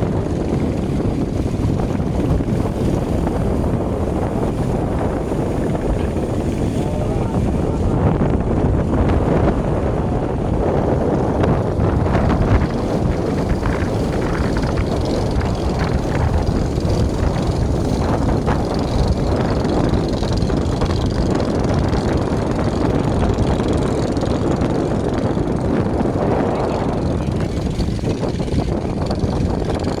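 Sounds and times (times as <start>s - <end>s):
boat engines droning: 0.0s - 30.0s.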